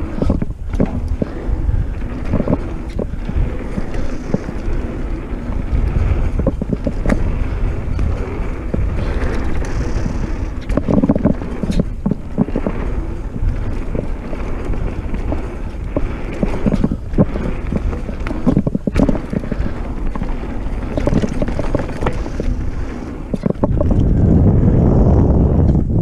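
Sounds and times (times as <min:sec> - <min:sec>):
bike knocking and rattling: 0:00.0 - 0:26.0
bike tyre noise: 0:00.0 - 0:26.0
wind rushing on microphone: 0:00.0 - 0:26.0.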